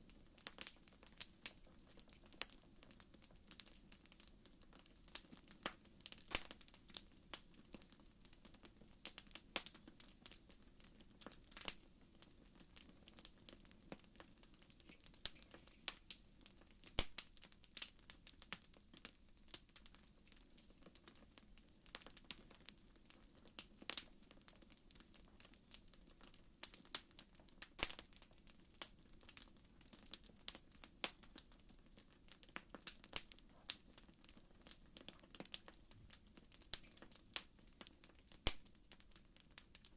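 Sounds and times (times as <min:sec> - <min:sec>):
campfire crackling: 0:00.0 - 0:39.9
low steady hiss: 0:00.0 - 0:39.9.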